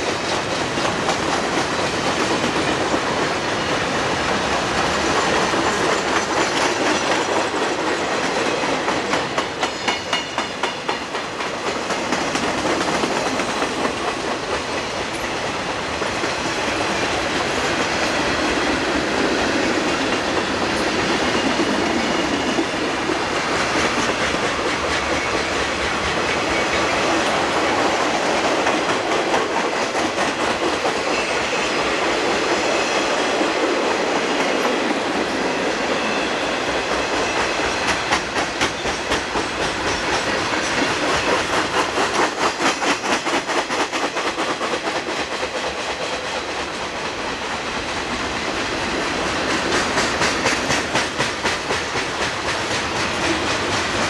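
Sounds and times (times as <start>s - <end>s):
train wheel clicks: 0.0s - 35.0s, 36.6s - 54.0s
freight train cars rolling past: 0.0s - 54.0s.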